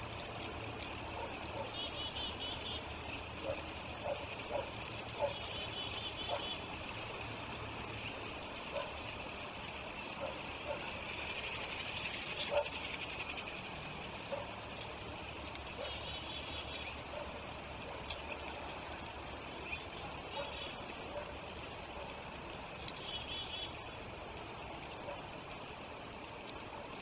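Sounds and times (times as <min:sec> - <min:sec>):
faint animal calls and trills: 0:00.0 - 0:27.0
river water rushing: 0:00.0 - 0:27.0.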